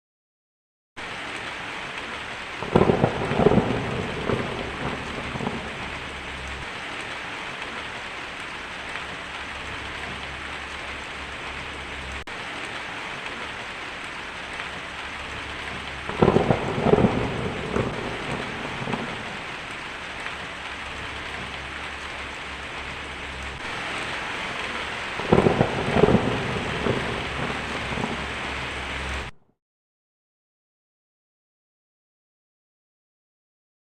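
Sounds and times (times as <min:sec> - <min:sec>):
heavy rain on a tin roof: 0:01.0 - 0:29.4
thunder rumbling: 0:01.8 - 0:29.4.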